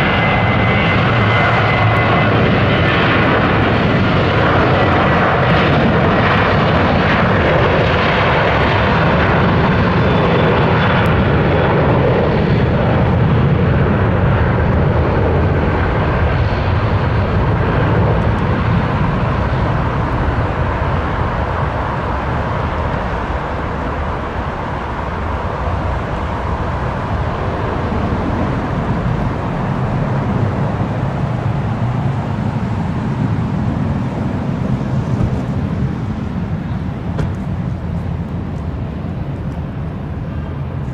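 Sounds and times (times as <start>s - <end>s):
airliner engine roar: 0.0s - 40.9s
faint engine whine: 0.0s - 40.9s.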